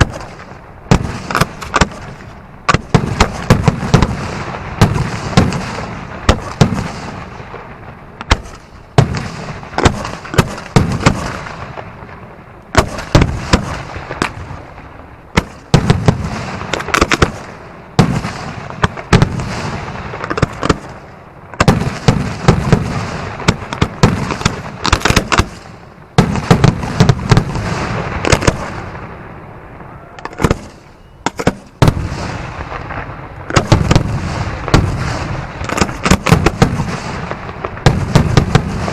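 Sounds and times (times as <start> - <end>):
fireworks bangs: 0.0 - 38.9
fireworks crackling and rumbling: 0.0 - 38.9.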